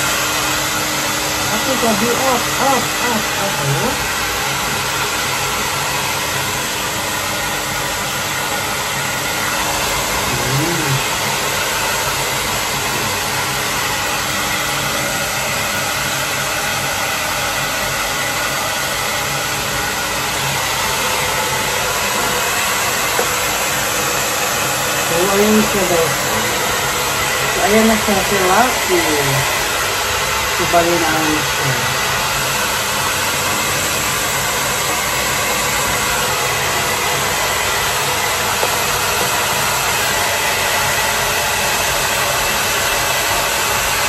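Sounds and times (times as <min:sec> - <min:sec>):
hair dryer blowing: 0:00.0 - 0:44.0.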